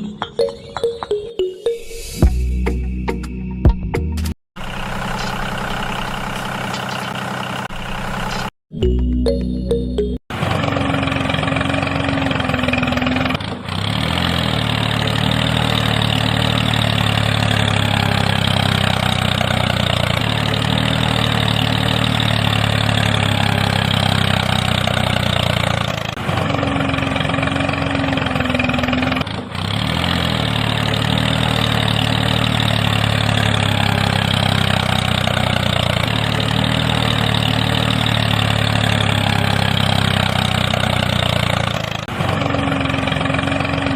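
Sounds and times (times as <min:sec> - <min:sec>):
tractor engine idling: 0:04.6 - 0:08.5, 0:10.3 - 0:43.9.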